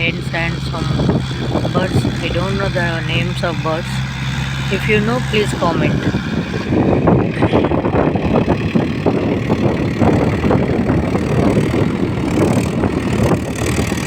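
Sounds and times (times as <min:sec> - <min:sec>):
tractor diesel engine running: 0:00.0 - 0:14.0
wind buffeting microphone: 0:00.0 - 0:14.0.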